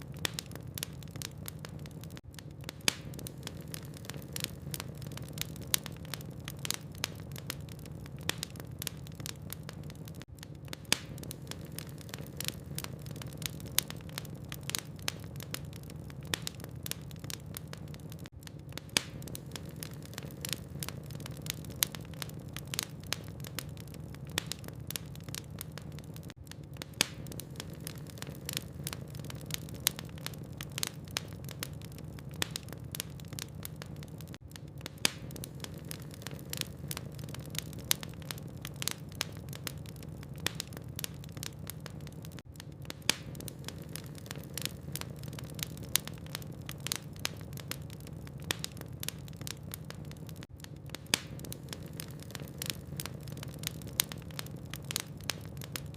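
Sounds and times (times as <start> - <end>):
burning logs crackling: 0.0 - 55.9.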